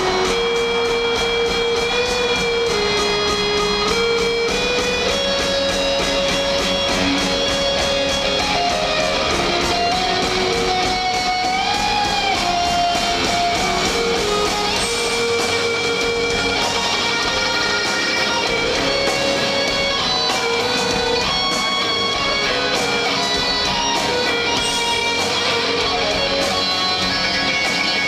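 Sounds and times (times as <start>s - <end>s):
drums: 0.0s - 28.0s
electric guitars: 0.0s - 28.0s
rock band playing live: 0.0s - 28.0s.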